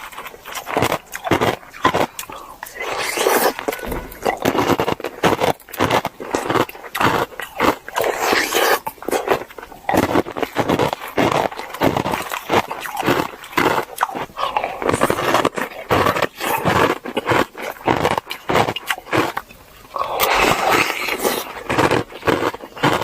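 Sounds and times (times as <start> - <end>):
wet mouth eating sounds: 0.0 - 23.0.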